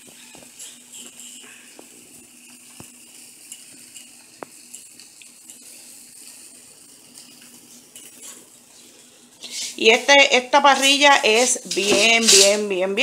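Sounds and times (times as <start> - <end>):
steady hiss with faint hum: 0.0 - 13.0.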